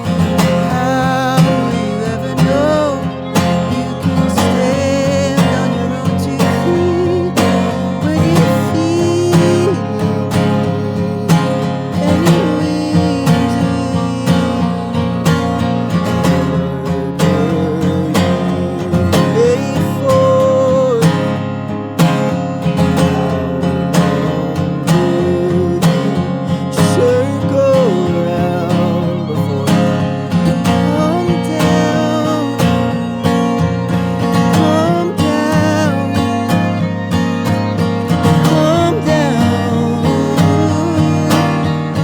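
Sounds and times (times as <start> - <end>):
acoustic guitar strumming: 0.0 - 42.0
wavering melody line: 0.0 - 42.0.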